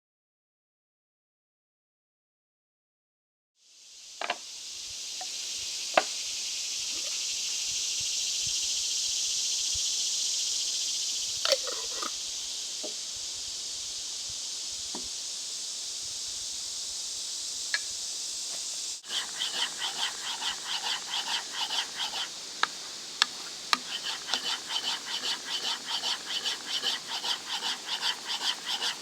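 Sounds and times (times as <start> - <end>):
high-pitched insect chorus: 3.6 - 29.0.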